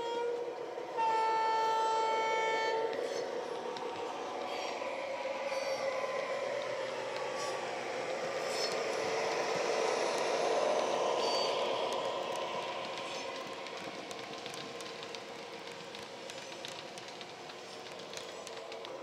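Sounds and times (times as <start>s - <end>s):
wheels rolling on track: 2.6s - 19.0s.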